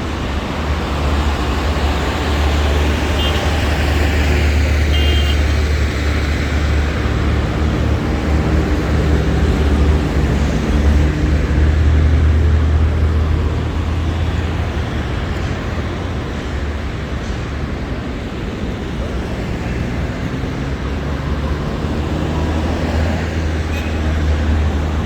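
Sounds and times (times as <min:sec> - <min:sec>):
vehicles passing close by: 0:00.0 - 0:25.0.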